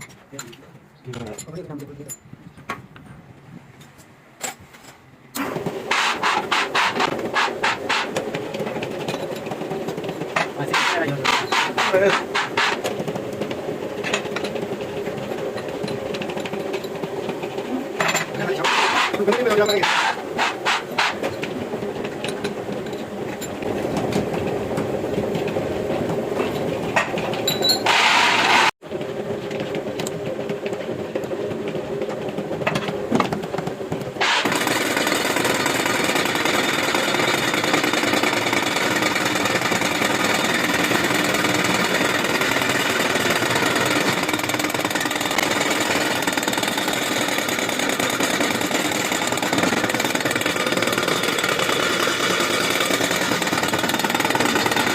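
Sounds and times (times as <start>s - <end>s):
workshop machine rasping: 0.0s - 54.9s.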